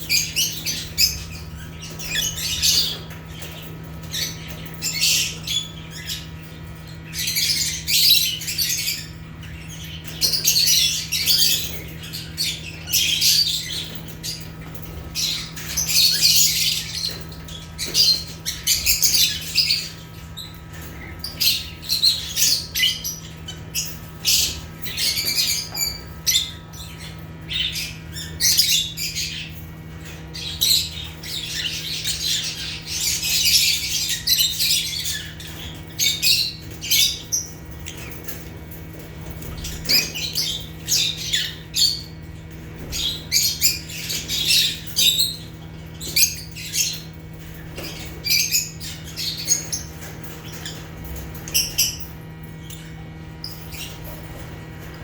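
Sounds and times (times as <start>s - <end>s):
lovebirds squawking and chirping: 0.0s - 55.0s
steady low hum: 0.0s - 55.0s.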